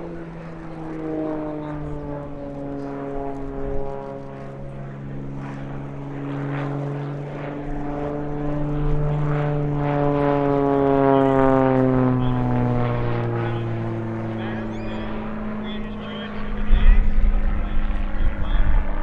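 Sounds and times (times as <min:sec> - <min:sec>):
propeller plane flying past: 0:00.0 - 0:19.0.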